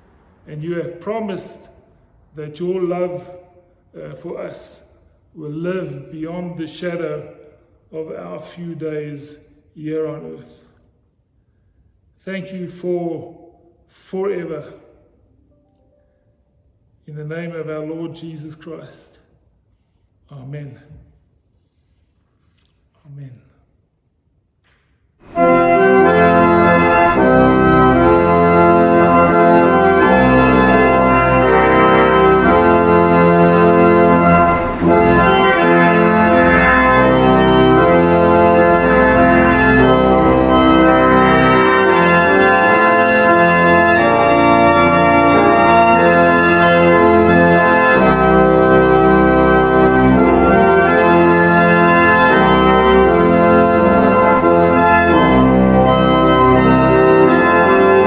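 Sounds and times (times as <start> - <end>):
organ playing sustained chords: 0.0 - 10.8, 12.2 - 16.5, 17.1 - 19.1, 25.2 - 58.0.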